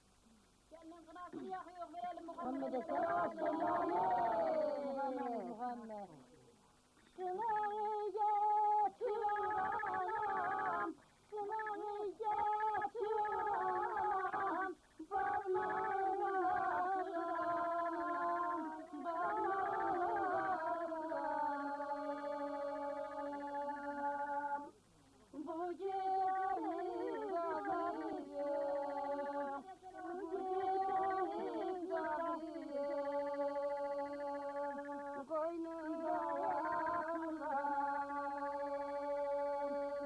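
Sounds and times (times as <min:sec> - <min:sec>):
women singing folk song: 0:00.7 - 0:40.0.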